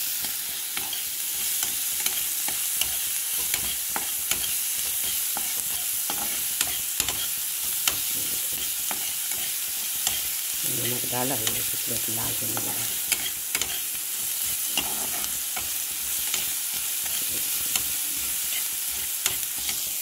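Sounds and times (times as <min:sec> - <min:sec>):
spatula scraping a pan: 0:00.0 - 0:11.7, 0:12.4 - 0:20.0
onions sizzling in oil: 0:00.0 - 0:20.0.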